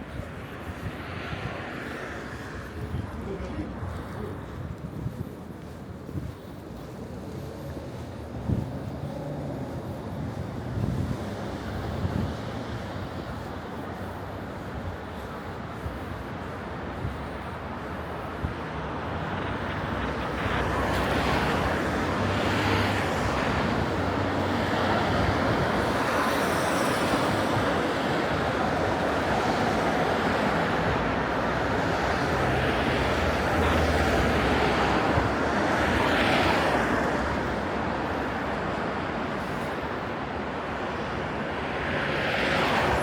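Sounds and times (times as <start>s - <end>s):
cars passing: 0.0s - 43.0s.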